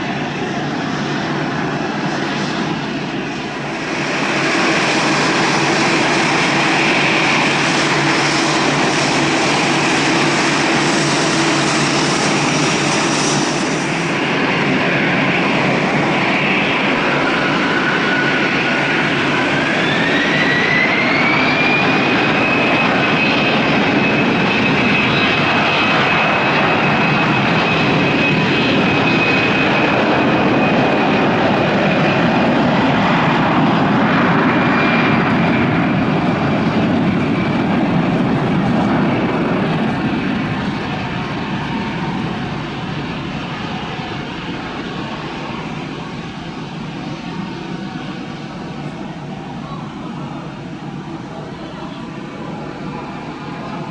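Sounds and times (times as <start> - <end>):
jet engine rumble: 0.0 - 53.9
jet engines whining: 0.0 - 53.9.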